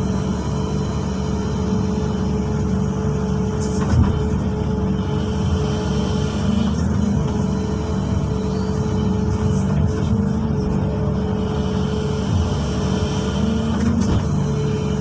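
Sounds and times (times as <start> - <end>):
excavator diesel engine: 0.0 - 15.0
steady whine: 0.0 - 15.0.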